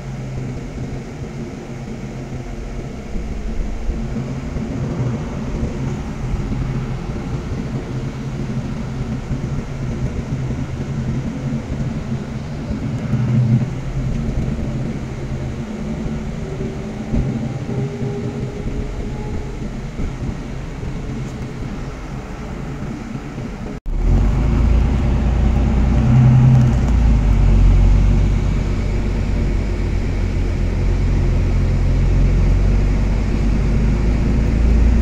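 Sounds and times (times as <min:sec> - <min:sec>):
bus engine drone: 0:00.0 - 0:35.0
road rumble: 0:00.0 - 0:35.0.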